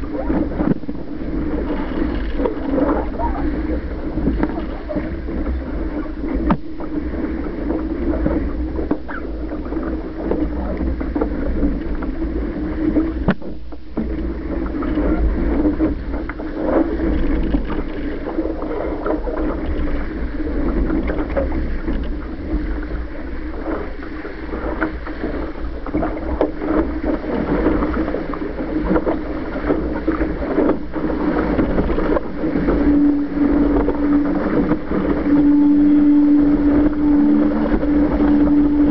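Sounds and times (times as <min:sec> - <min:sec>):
steady low hum: 0:00.0 - 0:38.9
water rushing along hull: 0:00.0 - 0:38.9
wind buffeting microphone: 0:00.0 - 0:38.9.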